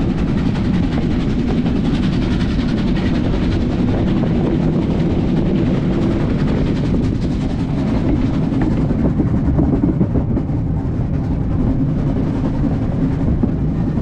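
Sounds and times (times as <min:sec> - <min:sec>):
steam train rumbling: 0:00.0 - 0:14.0.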